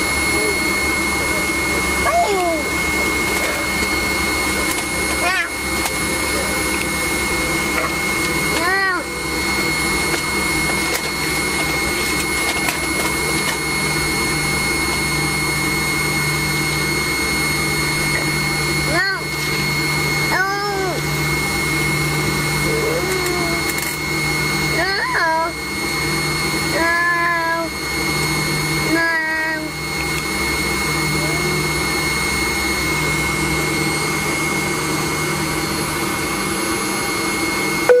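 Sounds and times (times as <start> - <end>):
jet engines idling whine: 0.0 - 38.0.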